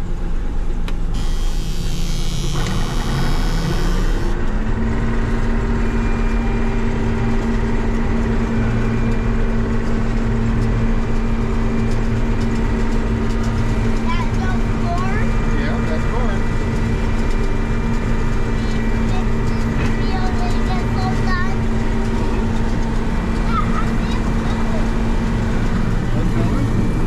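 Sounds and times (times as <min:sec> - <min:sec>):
combine engine and machinery: 0:00.0 - 0:27.0.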